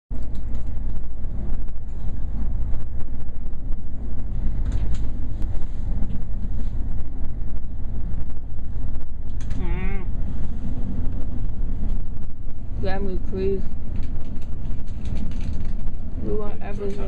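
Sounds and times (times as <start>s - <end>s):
train wheels rumbling on rail: 0.1s - 17.0s.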